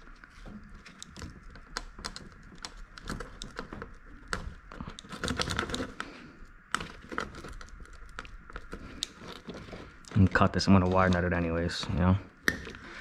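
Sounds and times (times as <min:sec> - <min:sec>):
gloved hands rustling: 0:00.0 - 0:13.0.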